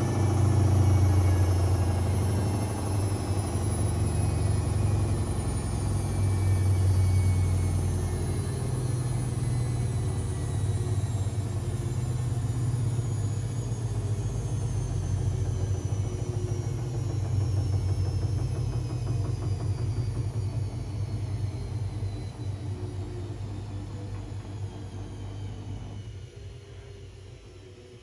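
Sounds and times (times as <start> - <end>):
washing machine motor rumbling: 0.0 - 28.0.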